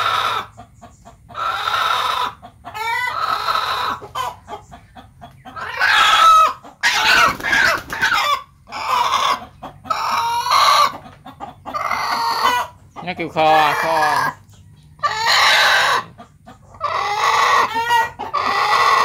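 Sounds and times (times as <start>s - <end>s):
chickens squawking and clucking: 0.0s - 19.0s.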